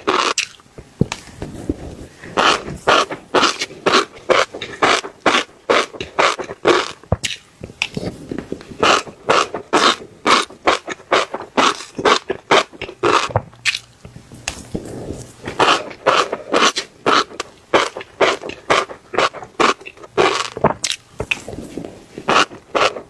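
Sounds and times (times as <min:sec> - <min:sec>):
fish roe squelching: 0:00.0 - 0:23.0.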